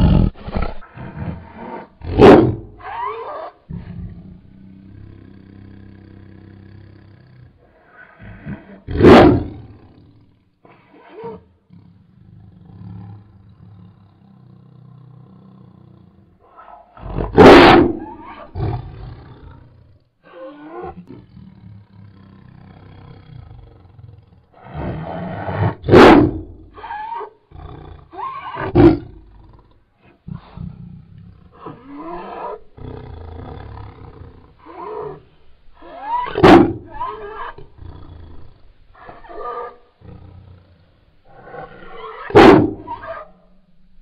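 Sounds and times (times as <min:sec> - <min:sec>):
tiger growling and roaring: 0:00.0 - 0:44.0.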